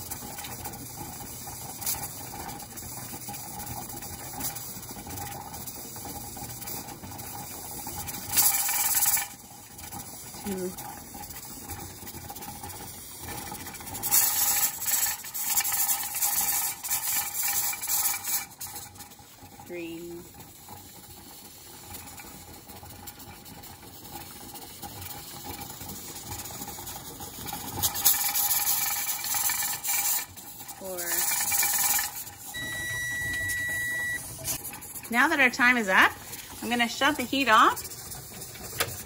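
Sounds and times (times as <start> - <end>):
steam venting with rattling hiss: 0.0 - 32.6, 34.2 - 39.0.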